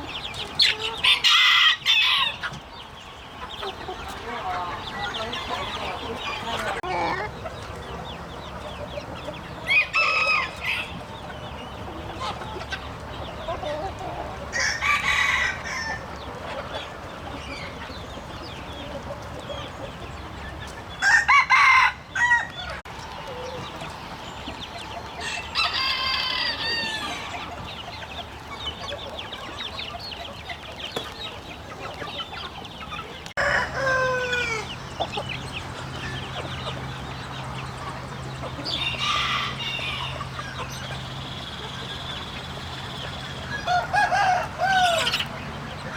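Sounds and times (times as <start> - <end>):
roosters crowing: 0.0 - 28.4, 32.2 - 45.9
chickens clucking: 0.0 - 45.9.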